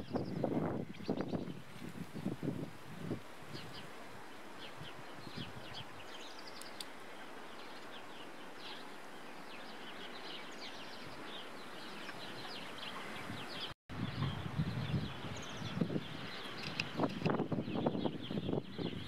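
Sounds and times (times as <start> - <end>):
songbirds chirping: 0.0 - 19.0
steady outdoor hiss: 0.0 - 19.0.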